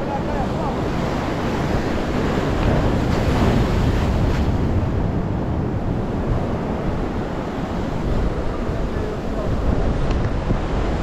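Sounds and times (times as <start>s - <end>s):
sea waves washing: 0.0s - 11.0s
wind buffeting microphone: 0.0s - 11.0s.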